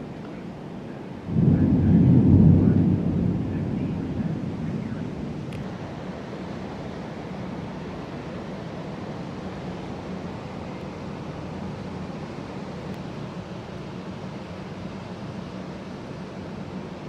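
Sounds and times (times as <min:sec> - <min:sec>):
low rumbling background noise: 0:00.0 - 0:17.0
thunder rumble: 0:01.0 - 0:17.0.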